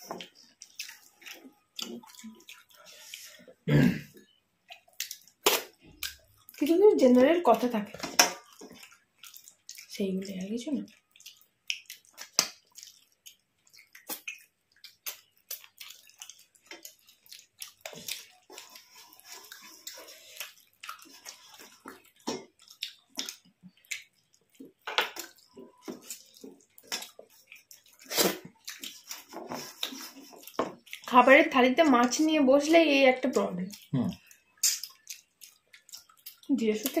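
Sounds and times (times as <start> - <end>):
chewing and lip smacks: 0.0 - 6.7, 8.4 - 31.2, 33.4 - 37.0.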